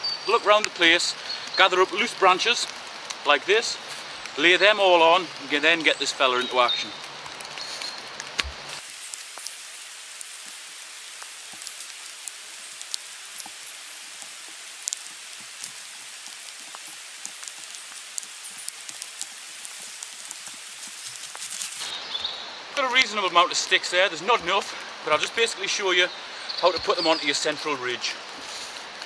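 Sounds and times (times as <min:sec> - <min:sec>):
raindrops ticking: 0:00.0 - 0:21.9, 0:22.8 - 0:29.0
steady rain hiss: 0:00.0 - 0:29.0.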